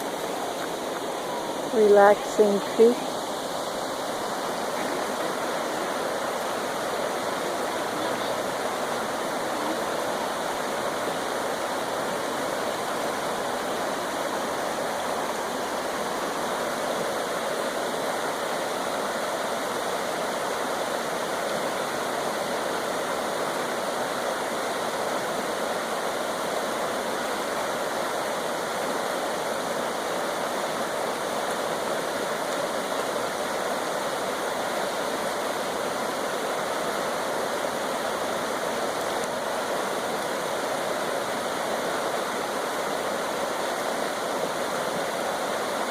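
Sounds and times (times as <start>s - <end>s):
creek water rushing over rocks: 0.0s - 45.9s.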